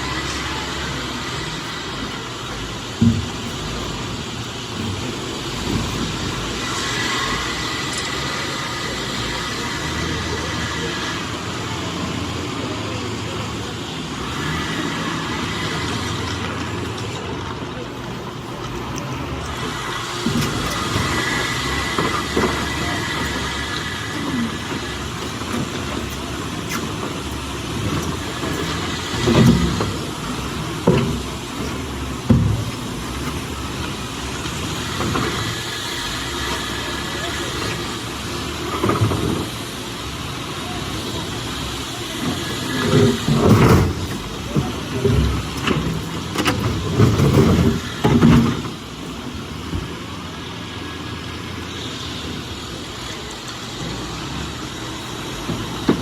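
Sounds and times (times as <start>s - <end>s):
heavy machinery rumbling: 0.0s - 56.0s.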